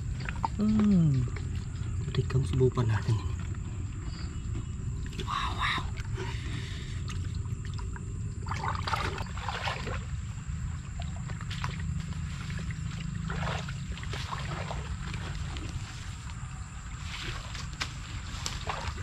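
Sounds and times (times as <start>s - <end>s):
low rumble: 0.0s - 19.0s
water splashing and sloshing: 0.0s - 19.0s.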